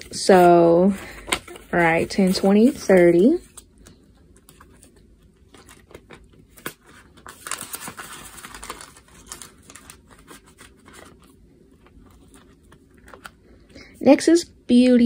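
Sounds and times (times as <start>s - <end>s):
plastic envelope and bills rustling: 0.0s - 13.9s.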